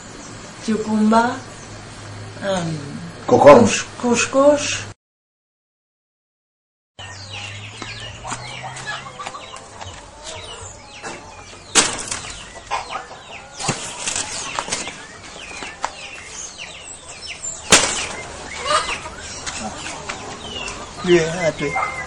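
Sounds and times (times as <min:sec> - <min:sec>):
birds chirping and calling: 0:00.0 - 0:04.8, 0:07.0 - 0:22.0.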